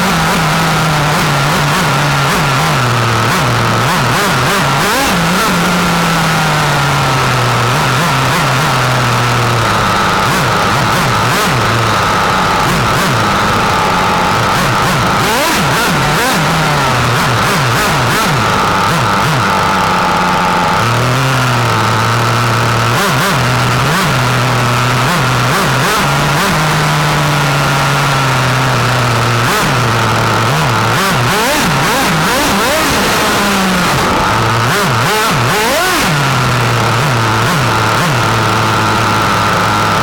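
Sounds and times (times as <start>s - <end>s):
model car nitro engine revving: 0.0s - 40.0s.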